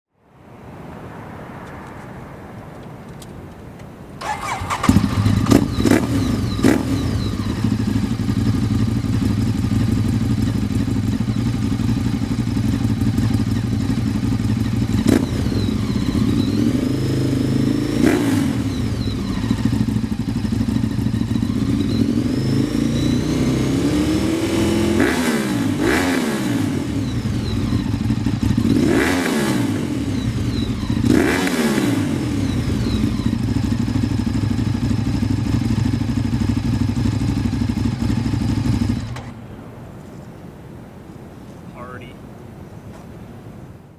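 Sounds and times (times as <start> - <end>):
exhaust cracks: 0.8 - 39.8
motorcycle engine idling and revving: 4.2 - 39.4.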